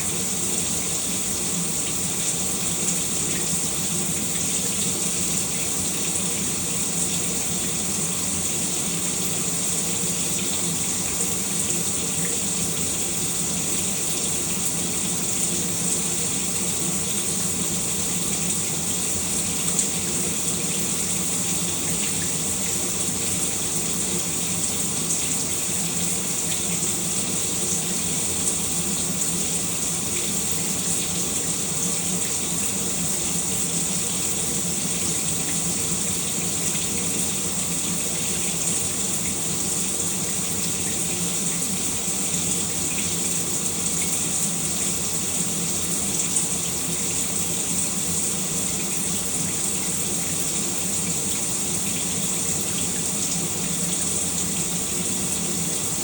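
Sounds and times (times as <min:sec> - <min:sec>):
shower running: 0:00.0 - 0:56.0.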